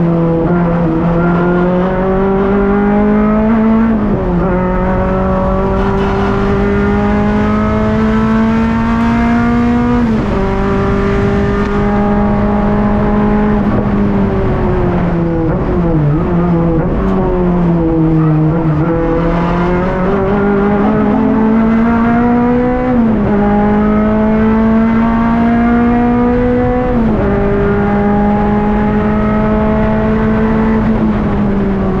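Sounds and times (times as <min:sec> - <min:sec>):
car engine accelerating with upshifts: 0:00.0 - 0:32.0.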